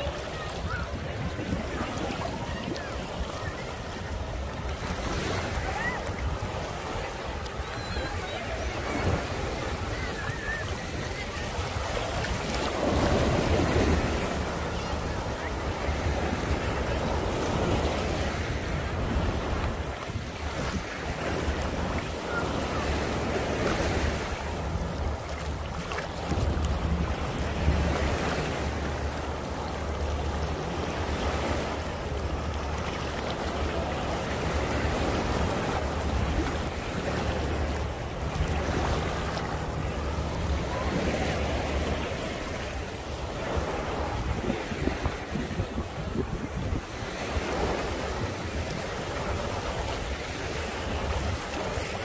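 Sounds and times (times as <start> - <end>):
small waves breaking: 0.0 - 52.0
wind buffeting microphone: 0.0 - 52.0.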